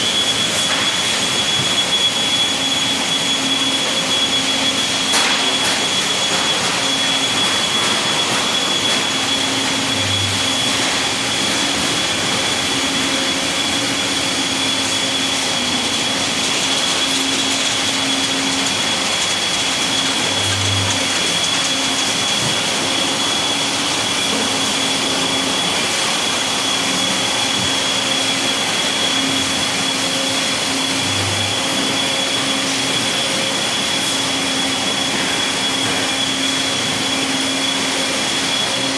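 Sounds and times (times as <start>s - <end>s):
low machine hum: 0.0s - 33.2s
machinery rush: 0.0s - 33.5s
deeper machine hum: 0.0s - 38.9s
high machine whine: 0.0s - 38.9s.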